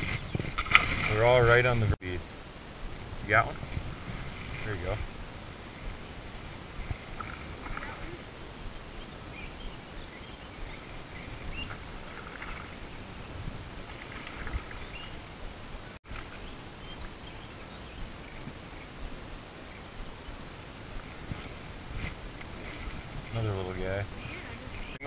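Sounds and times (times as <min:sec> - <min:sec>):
birds chirping: 0:00.0 - 0:25.0
steady outdoor hiss: 0:00.0 - 0:25.0.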